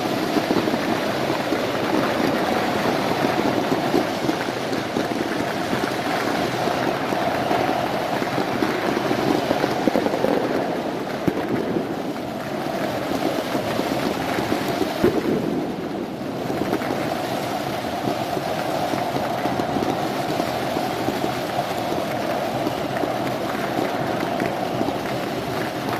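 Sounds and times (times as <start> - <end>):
fireworks bangs: 0.0 - 25.9
fireworks crackling: 0.0 - 25.9
stadium crowd noise: 0.0 - 25.9.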